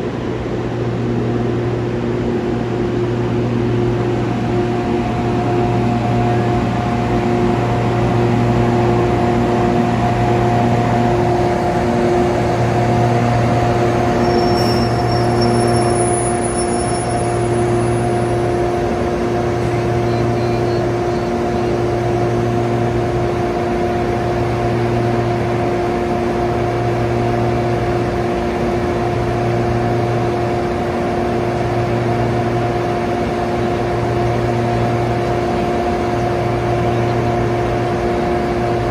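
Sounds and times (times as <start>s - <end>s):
electric locomotive humming: 0.0s - 38.9s
low drone: 0.0s - 38.9s.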